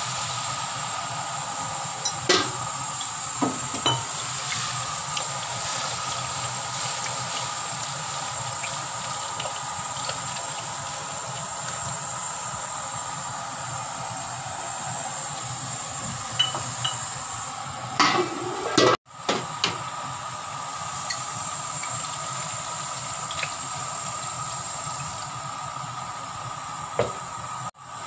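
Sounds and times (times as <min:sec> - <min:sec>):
gas stove hissing: 0:00.0 - 0:28.0.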